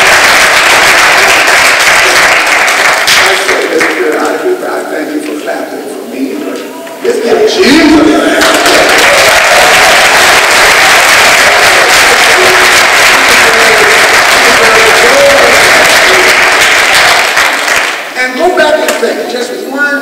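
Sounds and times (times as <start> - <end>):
congregation clapping: 0.0 - 4.6, 7.6 - 19.1.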